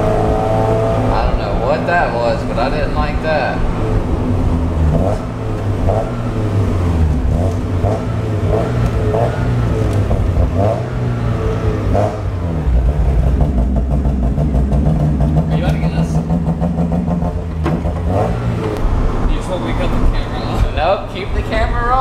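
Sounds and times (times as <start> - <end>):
car engine misfiring while driving: 0.0 - 22.0.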